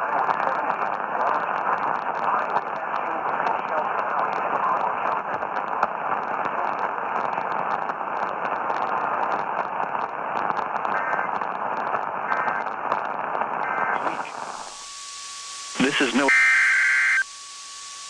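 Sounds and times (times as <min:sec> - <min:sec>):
radio static hiss and crackle: 0:00.0 - 0:18.0.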